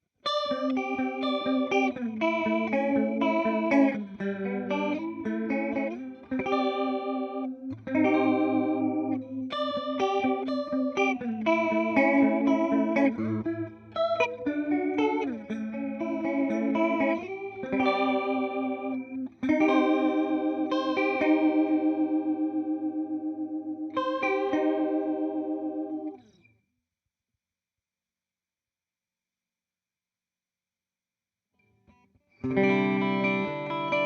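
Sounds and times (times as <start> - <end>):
electric guitar with chorus: 0.2 - 26.5, 31.9 - 34.0.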